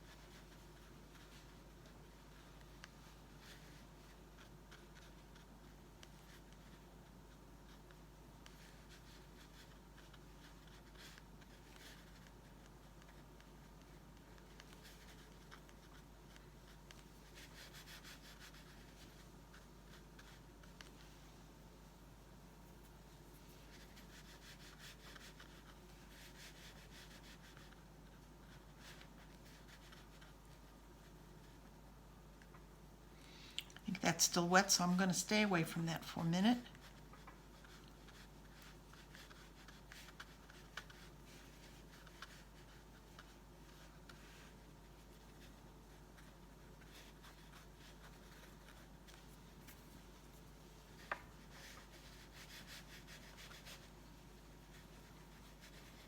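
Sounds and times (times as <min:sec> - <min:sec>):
brush scratching on paper: 0:00.0 - 0:21.1, 0:22.7 - 0:31.7, 0:33.9 - 0:56.0
low steady hum: 0:00.0 - 0:56.0.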